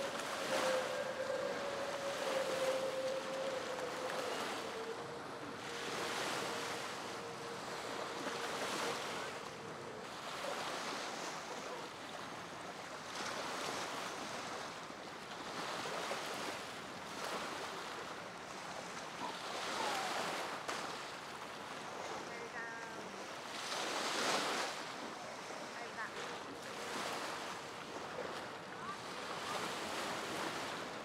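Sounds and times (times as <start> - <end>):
choppy water rushing: 0.0 - 31.0
wind: 0.0 - 31.0.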